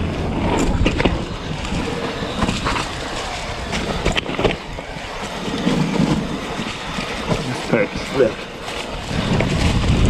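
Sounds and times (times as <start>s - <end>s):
bike clacking and rattling: 0.0s - 10.0s
tyre and wind noise: 0.0s - 10.0s.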